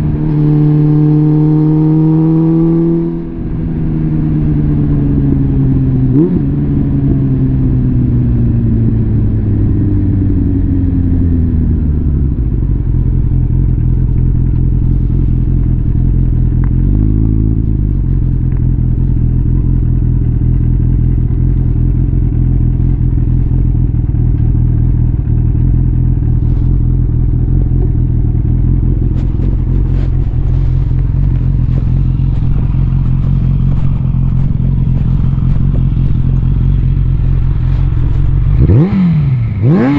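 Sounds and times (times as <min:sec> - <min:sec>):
motorcycle engine idling: 0:03.3 - 0:39.9.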